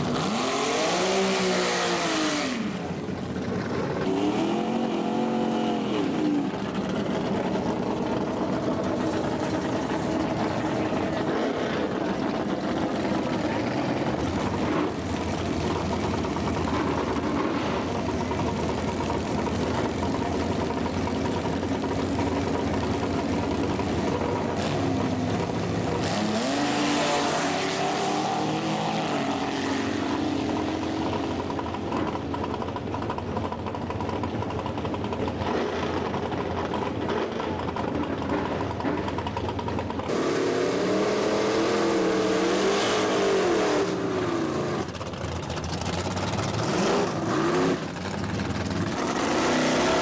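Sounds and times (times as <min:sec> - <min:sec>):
drag car engine revving: 0:00.0 - 0:50.0.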